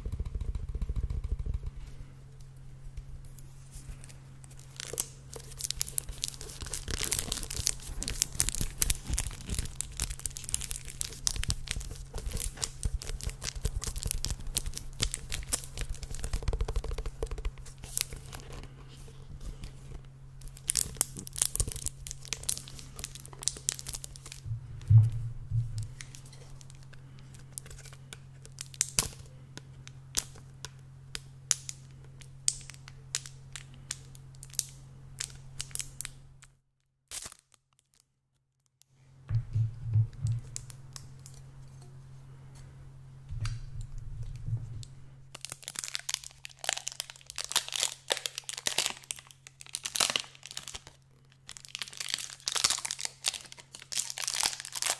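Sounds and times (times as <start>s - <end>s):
low steady hum: 0.0s - 36.6s, 38.9s - 54.9s.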